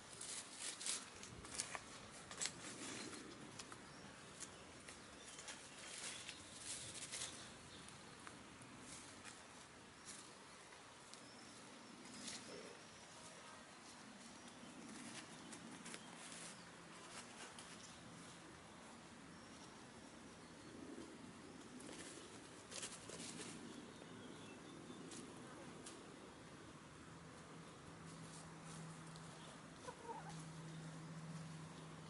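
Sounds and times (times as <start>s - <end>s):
hens pecking and scratching: 0.0s - 32.0s.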